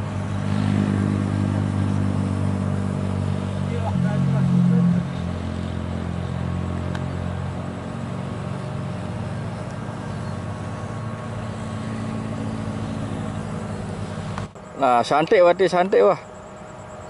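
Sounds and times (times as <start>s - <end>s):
outdoor noise: 0.0s - 17.0s
steady low engine drone: 0.0s - 17.0s.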